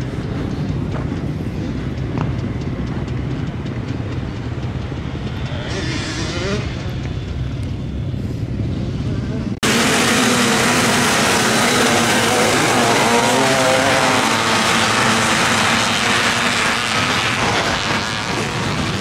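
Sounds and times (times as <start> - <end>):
motorcycle engines revving hard: 0.0 - 7.4, 8.8 - 19.0.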